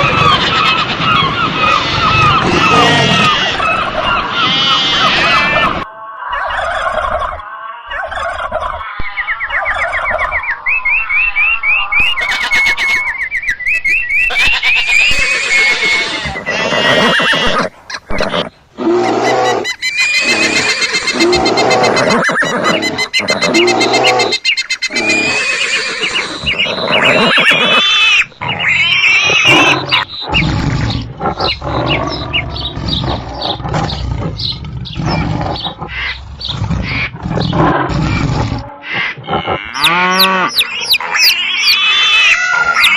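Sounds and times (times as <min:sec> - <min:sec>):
wavering animal cries: 0:00.0 - 0:10.2, 0:12.0 - 0:13.2, 0:14.2 - 0:42.9
rising chirping calls: 0:00.0 - 0:42.9.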